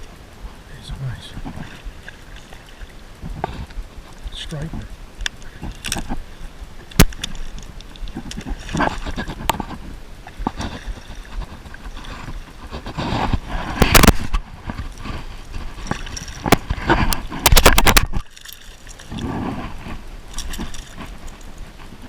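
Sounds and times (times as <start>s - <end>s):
water sloshing and splashing: 0.0s - 22.0s.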